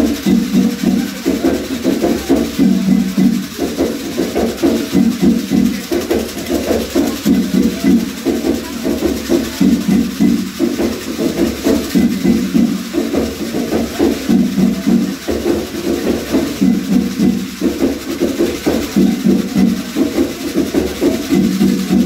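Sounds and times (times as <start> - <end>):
drumming: 0.0 - 22.0.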